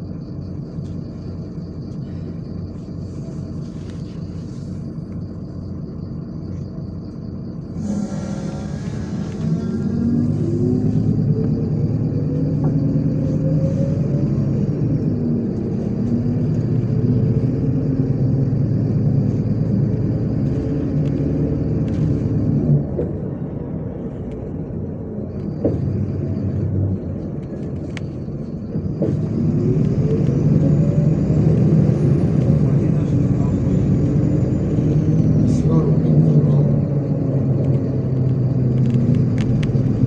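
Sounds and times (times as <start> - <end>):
bus engine pulling away: 0.0 - 40.0.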